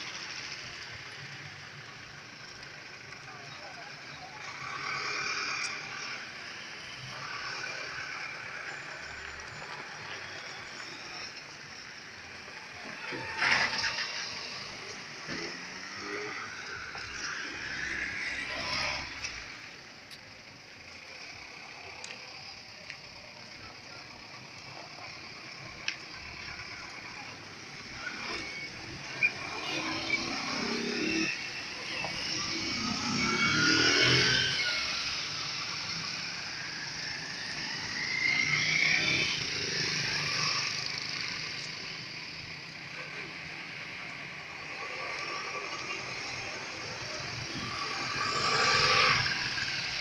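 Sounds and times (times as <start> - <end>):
traffic and town hum: 0.0 - 50.0.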